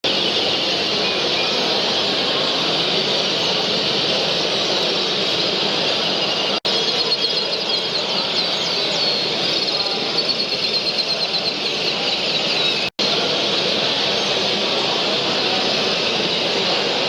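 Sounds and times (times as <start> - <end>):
bird's rapid high trill: 0.1 - 17.0.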